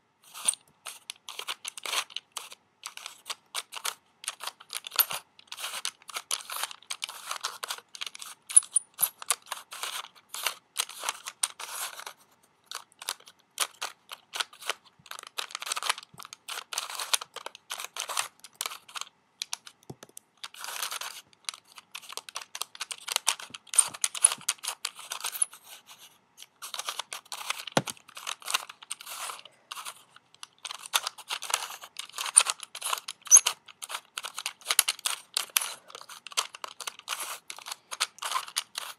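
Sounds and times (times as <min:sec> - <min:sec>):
puzzle pieces clicking: 0:00.4 - 0:12.1, 0:12.7 - 0:25.8, 0:26.6 - 0:38.9.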